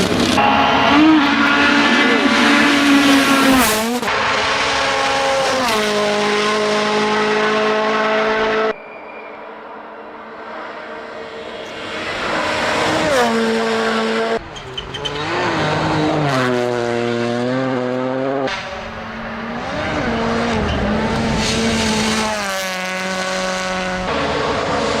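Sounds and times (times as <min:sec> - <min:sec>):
rally car engines revving: 0:00.0 - 0:08.8, 0:09.8 - 0:25.0.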